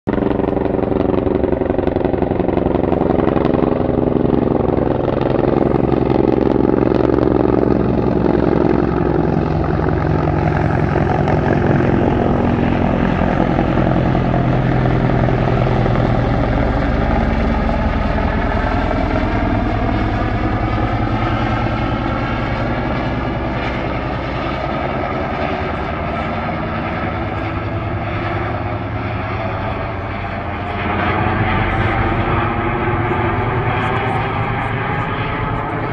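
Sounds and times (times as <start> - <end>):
helicopter flying past: 0.1 - 35.9.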